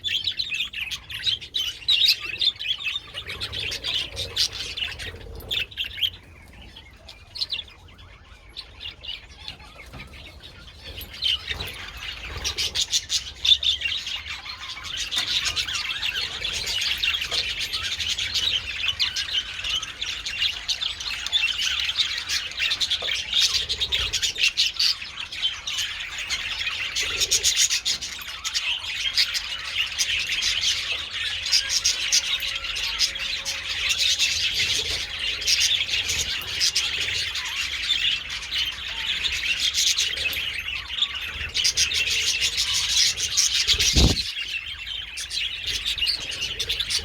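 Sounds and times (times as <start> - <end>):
budgerigars chattering and chirping: 0.0 - 47.0.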